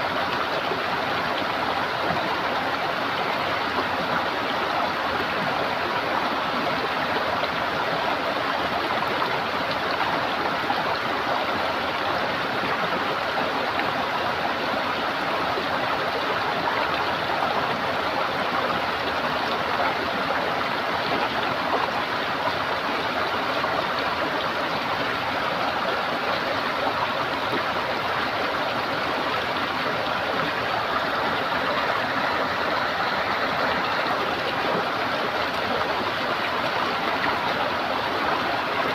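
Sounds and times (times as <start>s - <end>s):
running water gurgling: 0.0s - 38.9s.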